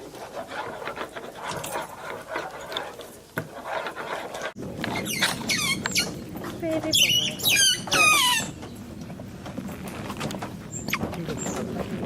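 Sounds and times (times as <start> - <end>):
otters scratching and rummaging: 0.0 - 12.0.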